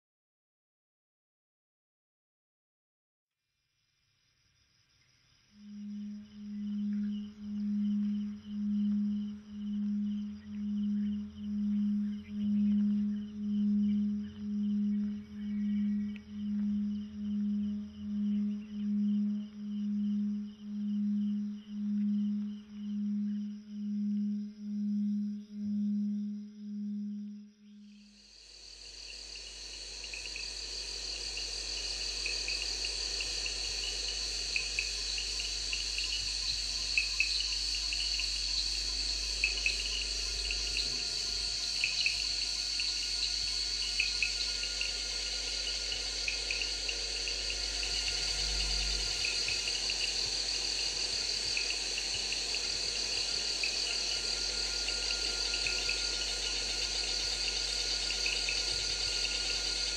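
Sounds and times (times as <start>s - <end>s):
insect chirps: 3.5s - 59.9s
crickets trilling: 3.8s - 59.9s.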